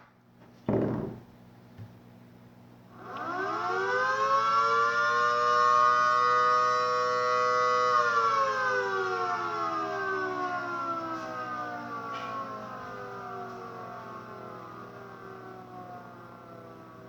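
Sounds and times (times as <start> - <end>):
dual-tone tornado siren winding down: 3.0 - 17.0.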